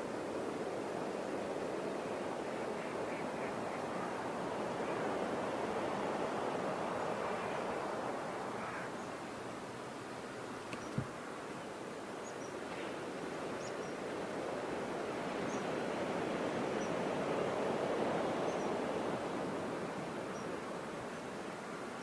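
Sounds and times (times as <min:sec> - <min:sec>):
surf washing: 0:00.0 - 0:22.0.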